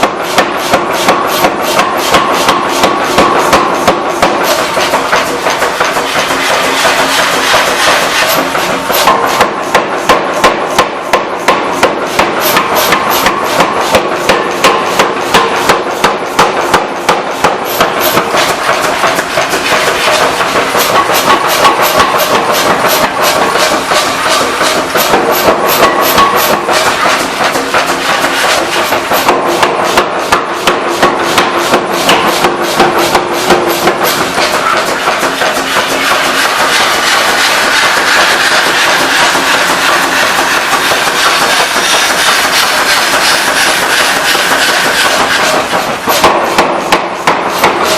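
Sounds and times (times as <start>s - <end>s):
steady machine hum: 0.0s - 47.9s.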